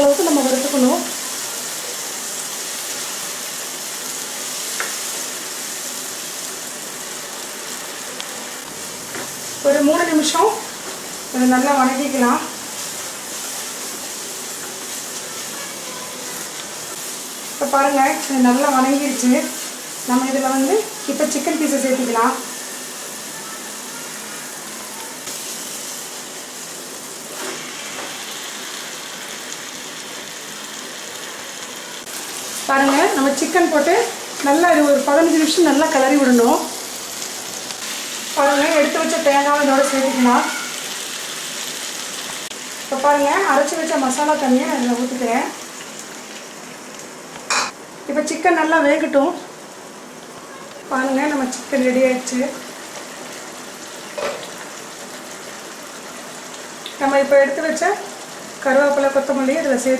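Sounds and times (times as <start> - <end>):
masala sizzling in oil: 0.0 - 59.9.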